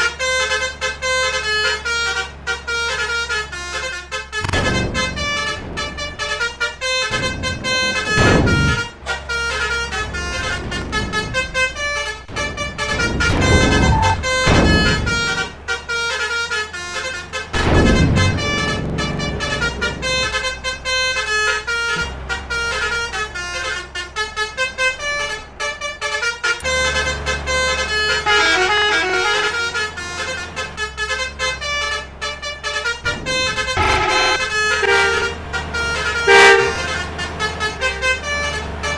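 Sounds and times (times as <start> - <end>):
engine rumble: 0.0 - 38.9
multi-tone musical vehicle horns: 0.0 - 38.9.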